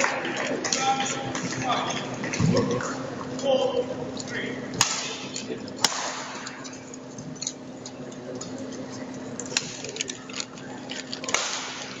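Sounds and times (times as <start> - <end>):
low hum in hall: 0.0 - 12.0.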